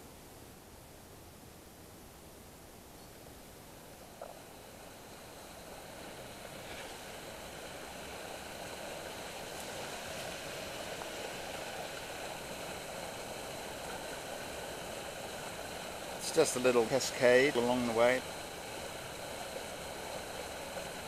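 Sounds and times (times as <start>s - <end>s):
water rushing over rocks: 4.1s - 21.0s.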